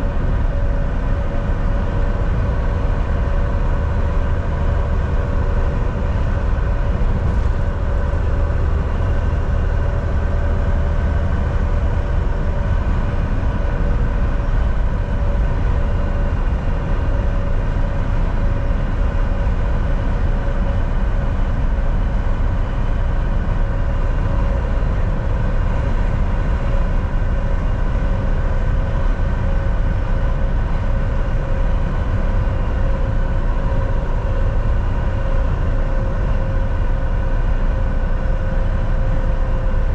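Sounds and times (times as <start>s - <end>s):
road rumble: 0.0s - 39.9s
truck engine drone: 0.0s - 39.9s.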